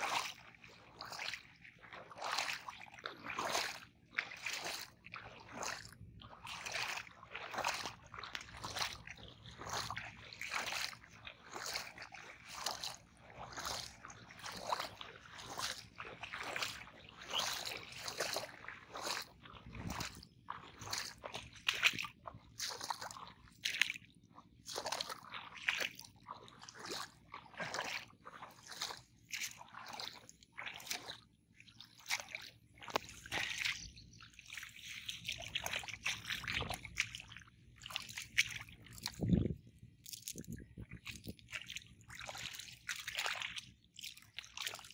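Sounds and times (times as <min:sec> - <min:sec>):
mud squelching: 0:00.0 - 0:44.9
wading through shallow water: 0:00.0 - 0:44.9.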